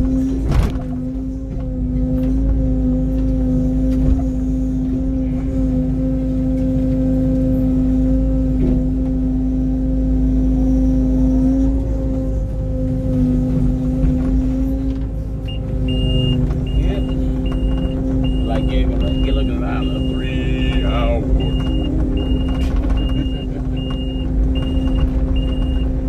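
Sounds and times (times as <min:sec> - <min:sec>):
excavator engine drone: 0:00.0 - 0:26.0.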